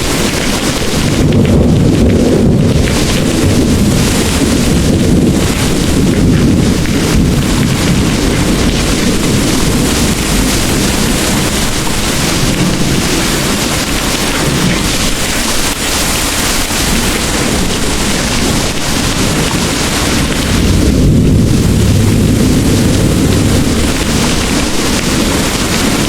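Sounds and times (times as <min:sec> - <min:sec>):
distant thunder rumble: 0:00.0 - 0:26.0
heavy rain pouring: 0:00.0 - 0:26.0.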